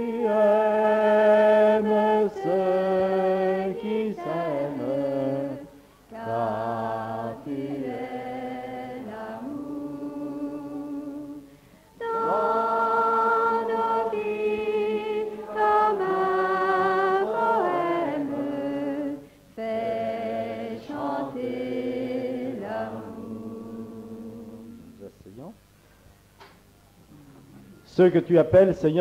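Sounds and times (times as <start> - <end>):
choir singing long held notes: 0.0 - 25.0.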